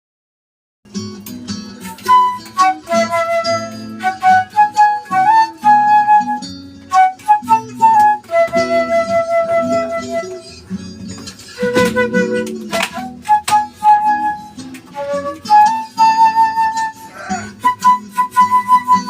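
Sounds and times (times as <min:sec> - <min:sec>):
lower musical accompaniment: 0:00.9 - 0:19.0
flute melody: 0:01.8 - 0:19.0.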